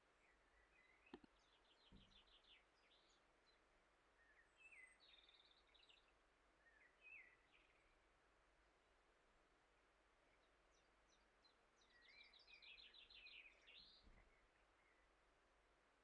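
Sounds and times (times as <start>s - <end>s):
faint birdsong chirps and trills: 0.0s - 16.0s.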